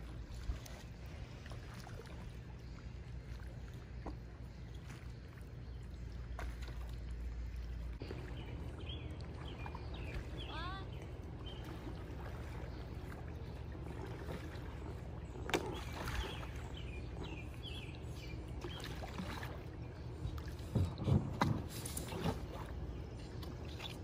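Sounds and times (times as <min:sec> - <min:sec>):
low background rumble: 0:00.0 - 0:24.0
paddle strokes splashing water: 0:00.0 - 0:24.0.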